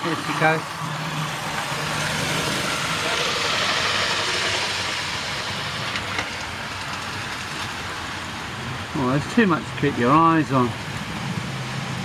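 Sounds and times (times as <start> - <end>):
model train rumbling on track: 0.0 - 12.0.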